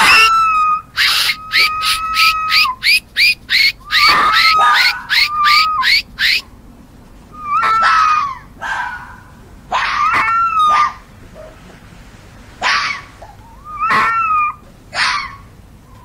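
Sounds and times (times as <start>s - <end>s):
fox whining calls: 0.0s - 6.5s, 7.3s - 11.6s, 12.6s - 16.0s
fox yelping: 0.0s - 6.5s, 7.3s - 11.6s, 12.6s - 16.0s.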